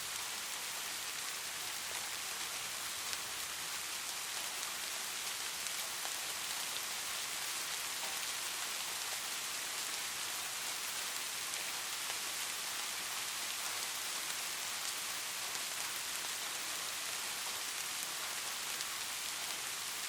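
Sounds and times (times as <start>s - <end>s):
light rain hissing: 0.0s - 20.0s
faint raindrop ticks: 0.9s - 20.0s.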